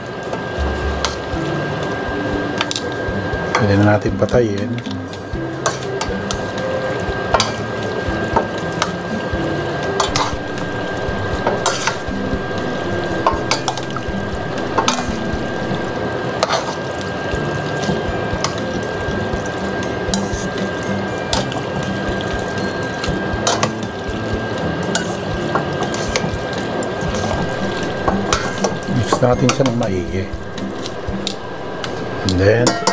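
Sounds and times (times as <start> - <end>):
steady background hiss: 0.0 - 32.9.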